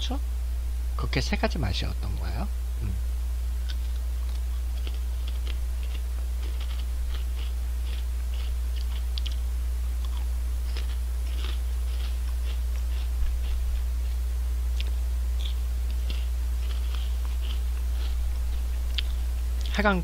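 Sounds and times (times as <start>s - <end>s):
steady low hum: 0.0s - 20.0s
chips crunching: 3.6s - 19.8s.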